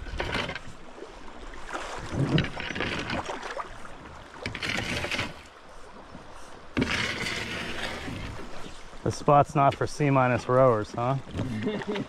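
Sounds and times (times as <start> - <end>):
oars splashing in water: 0.0 - 12.0
water rushing along boat: 0.0 - 12.0.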